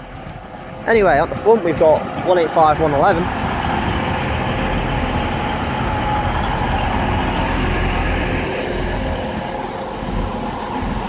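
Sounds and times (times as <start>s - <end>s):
diesel train rumbling: 0.0s - 11.0s
steady whining tones: 0.0s - 11.0s.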